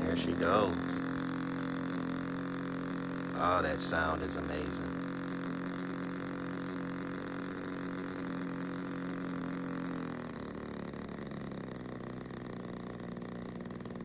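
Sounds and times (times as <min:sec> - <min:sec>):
model airplane engine running: 0:00.0 - 0:14.0.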